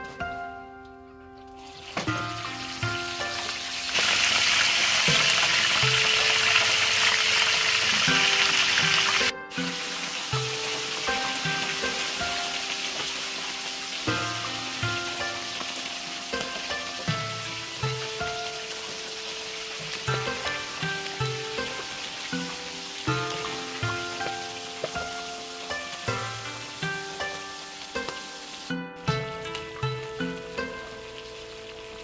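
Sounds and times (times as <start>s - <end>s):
fish sizzling in hot oil: 1.5s - 29.2s, 29.8s - 32.0s.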